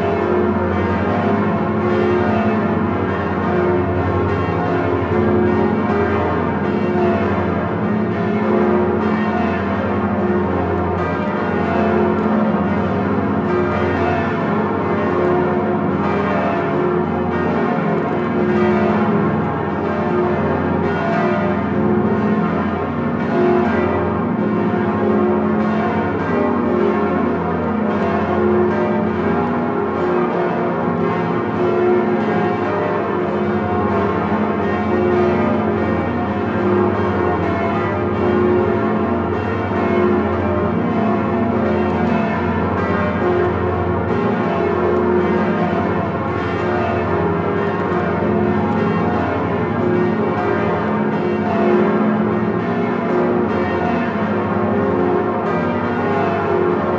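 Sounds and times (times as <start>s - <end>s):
church bells pealing: 0.0s - 56.9s.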